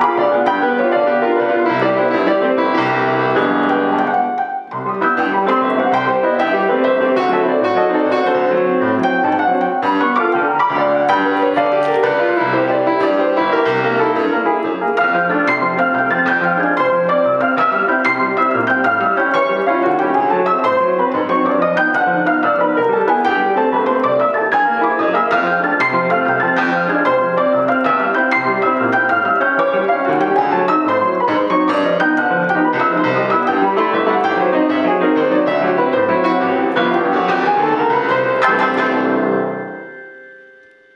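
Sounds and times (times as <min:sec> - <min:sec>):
grand piano rumba: 0:00.0 - 0:40.9.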